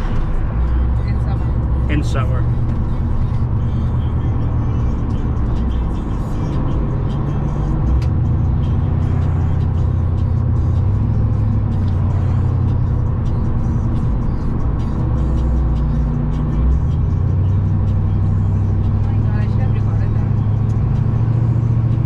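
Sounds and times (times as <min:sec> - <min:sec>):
music playing: 0:00.0 - 0:22.0
pickup truck engine and road drone: 0:00.0 - 0:22.0.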